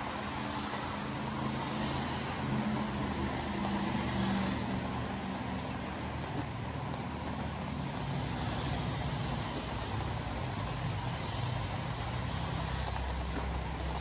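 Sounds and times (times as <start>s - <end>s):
low engine hum: 0.0s - 14.0s
tyres hissing on wet road: 0.0s - 14.0s.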